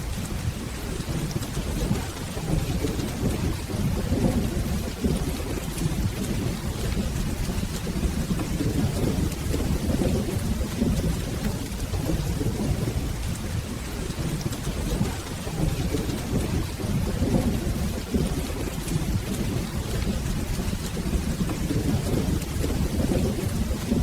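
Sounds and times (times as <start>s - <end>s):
rolling thunder: 0.0s - 24.0s
steady rain: 0.0s - 24.0s.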